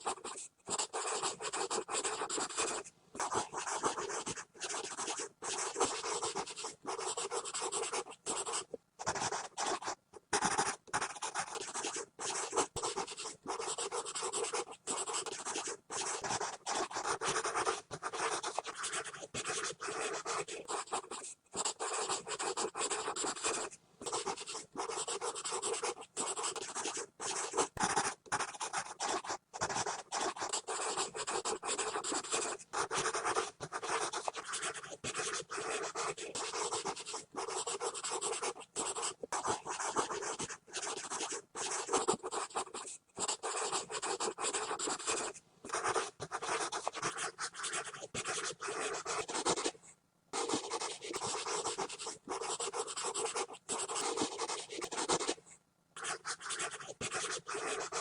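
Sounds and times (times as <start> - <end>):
pencil scribbling on paper: 0.0 - 49.8, 50.4 - 55.4, 56.0 - 58.0.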